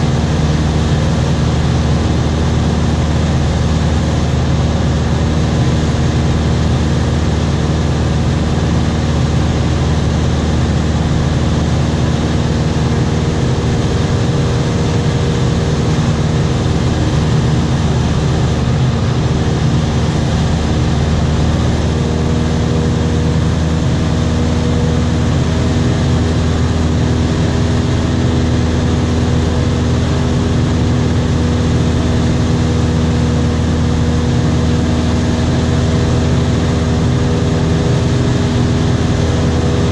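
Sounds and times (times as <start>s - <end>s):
airflow rushing: 0.0s - 39.9s
light aircraft engine droning: 0.0s - 39.9s.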